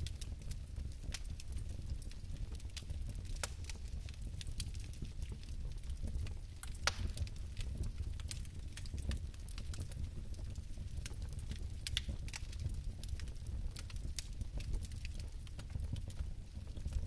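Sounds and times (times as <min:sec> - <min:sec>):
fireplace fire crackling: 0:00.0 - 0:17.0
low rumble of fire: 0:00.0 - 0:17.0.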